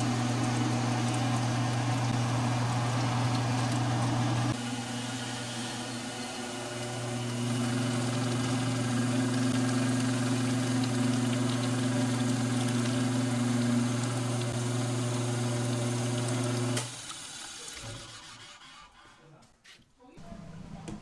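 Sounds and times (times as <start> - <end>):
machine motor humming: 0.0 - 16.9.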